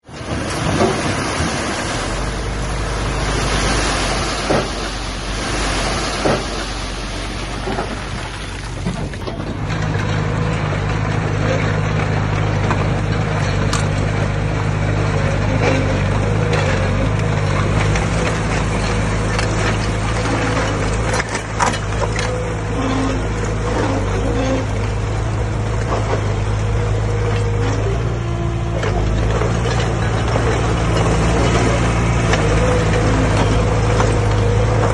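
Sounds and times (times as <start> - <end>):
heavy machinery diesel engine: 0.0 - 34.9.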